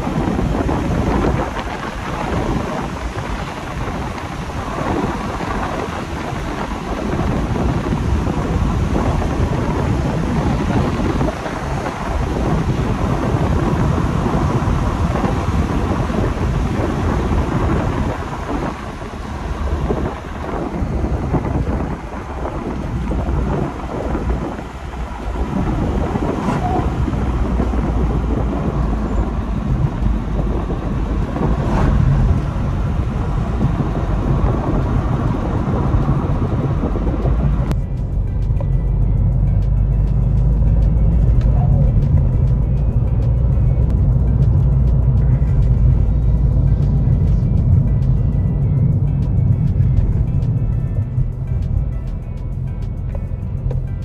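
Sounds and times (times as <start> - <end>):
low rumble of car driving: 0.0 - 54.0
wind buffeting microphone: 0.0 - 54.0.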